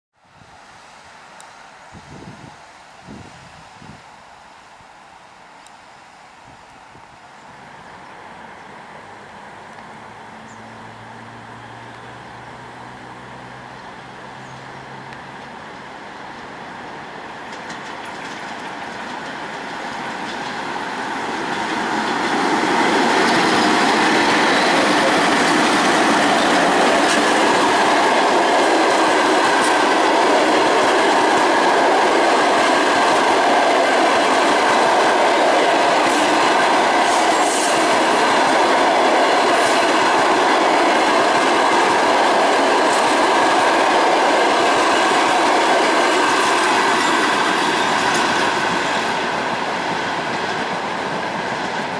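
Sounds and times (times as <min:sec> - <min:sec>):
passenger train passing: 0:07.3 - 0:51.9
train wheels on rails: 0:09.7 - 0:51.9.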